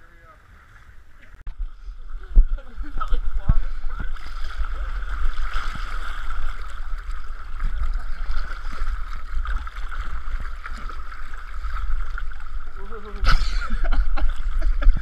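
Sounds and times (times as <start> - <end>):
steady low rumble: 0.0 - 15.0
water sloshing and splashing: 0.0 - 15.0.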